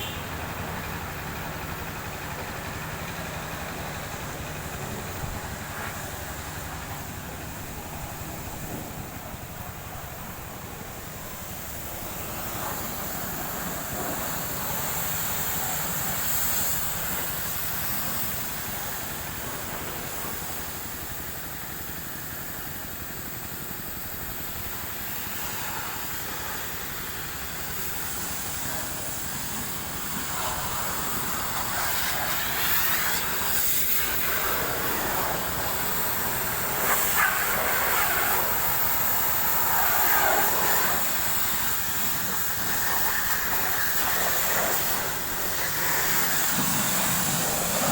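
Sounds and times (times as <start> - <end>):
high-pressure water jet hissing: 0.0 - 47.9.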